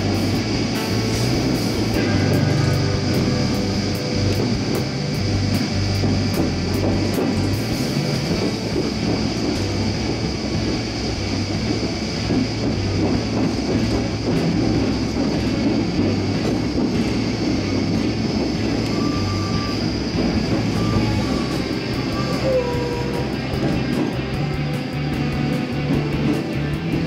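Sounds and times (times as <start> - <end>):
overhead line running noise: 0.0 - 27.0
train wheels rumbling on rail: 0.0 - 27.0.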